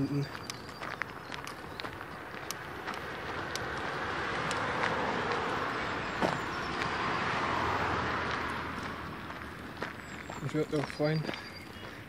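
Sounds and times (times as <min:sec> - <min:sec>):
car passing: 0:00.0 - 0:12.0.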